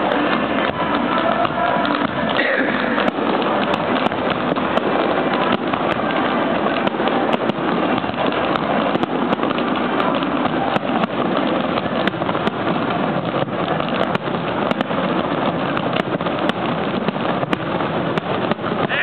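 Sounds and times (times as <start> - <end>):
fireworks cracking: 0.0 - 19.0
fireworks crackle: 0.0 - 19.0.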